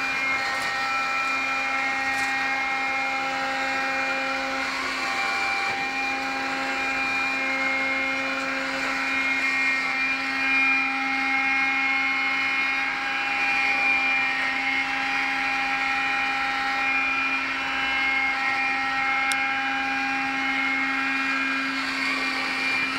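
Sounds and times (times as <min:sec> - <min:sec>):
floor-washing robot motor whirr: 0:00.0 - 0:22.9.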